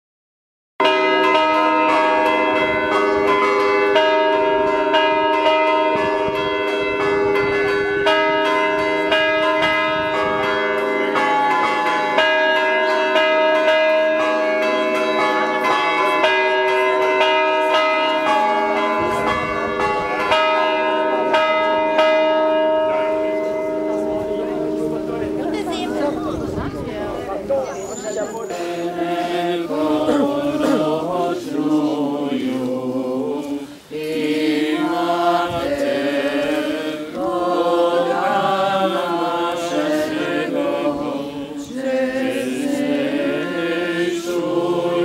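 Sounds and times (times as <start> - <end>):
church bells ringing: 0.8 - 45.0.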